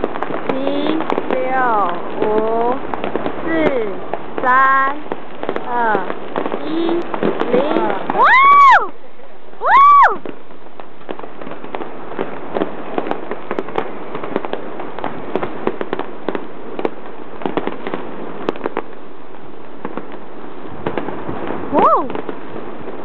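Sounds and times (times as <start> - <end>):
fireworks hiss: 0.0 - 23.0
fireworks popping and crackling: 0.0 - 23.0.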